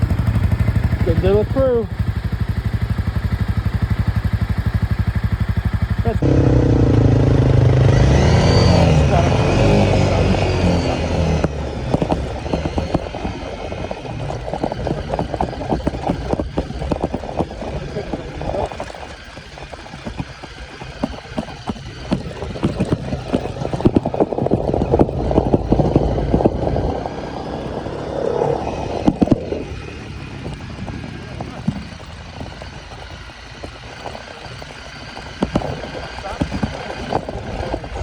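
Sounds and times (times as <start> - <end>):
knocks and rattles: 0.0 - 28.0, 28.8 - 38.0
off-road vehicle engine running: 0.0 - 38.0.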